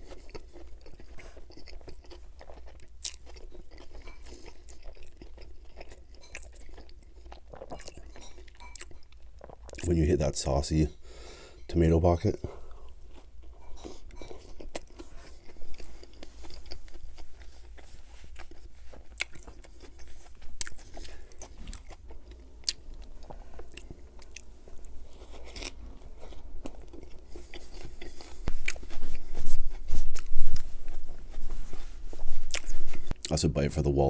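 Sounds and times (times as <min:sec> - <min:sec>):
close chewing with mouth clicks: 0:00.0 - 0:10.0, 0:12.7 - 0:33.4.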